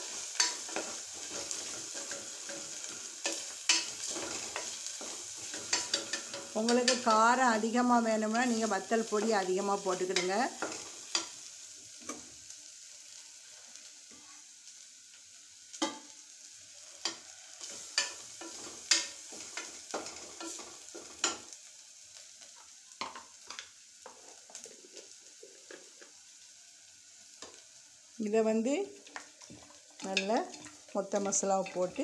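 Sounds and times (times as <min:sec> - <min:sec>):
masala sizzling in oil: 0:00.0 - 0:32.0.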